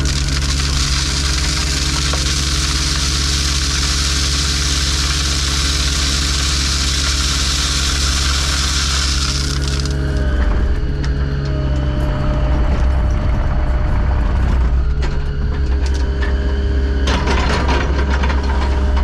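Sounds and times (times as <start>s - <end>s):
heavy equipment engine running: 0.0s - 19.0s.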